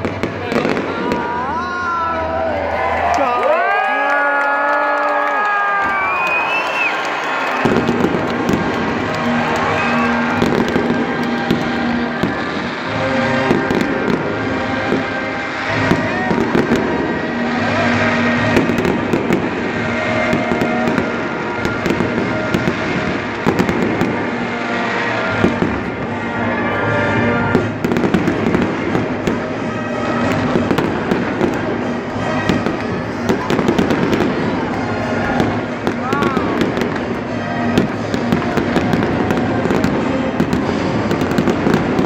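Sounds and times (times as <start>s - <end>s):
fireworks bursting and crackling: 0.0s - 1.7s, 5.4s - 42.0s
music playing: 0.0s - 3.8s, 5.2s - 42.0s.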